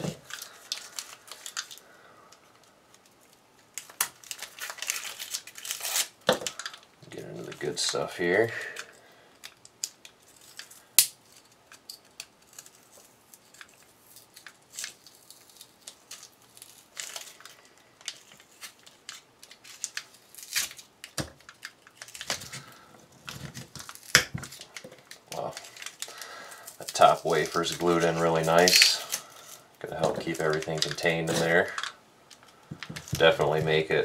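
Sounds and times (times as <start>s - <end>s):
wrapping being torn open: 0.0s - 34.0s.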